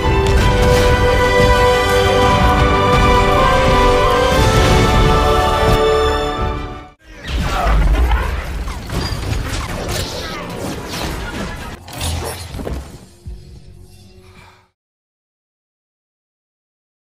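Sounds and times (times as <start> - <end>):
film score music: 0.0 - 14.8.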